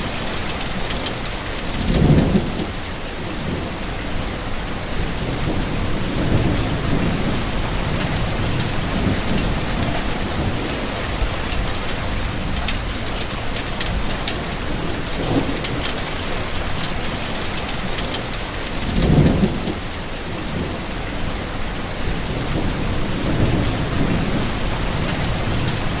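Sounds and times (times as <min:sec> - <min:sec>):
heavy rain: 0:00.0 - 0:26.0
low thunder rumbles: 0:00.0 - 0:26.0.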